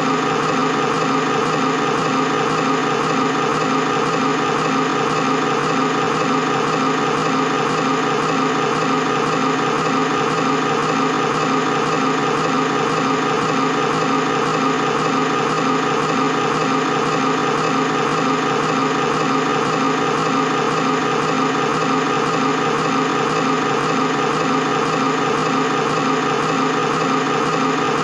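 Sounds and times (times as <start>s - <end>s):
film projector whirring: 0.0s - 28.0s.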